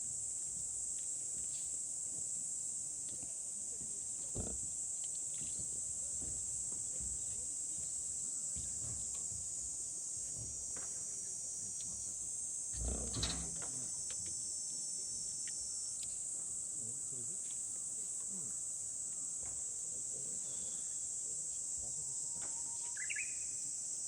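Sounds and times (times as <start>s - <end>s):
cricket-like insect chorus: 0.0s - 24.0s.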